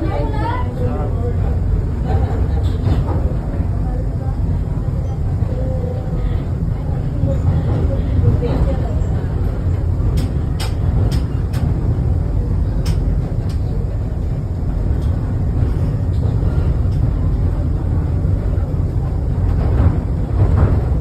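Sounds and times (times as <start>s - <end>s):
funicular car rumbling on rails: 0.0s - 21.0s.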